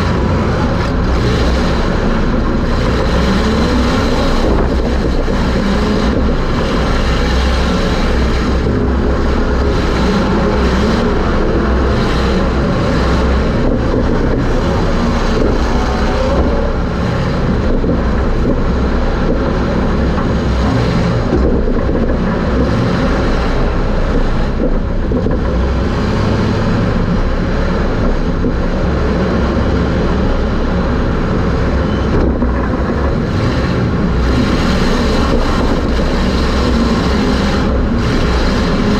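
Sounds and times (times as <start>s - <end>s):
drivetrain noise: 0.0s - 38.9s
race car engine drone: 0.0s - 38.9s
wind noise: 0.0s - 38.9s.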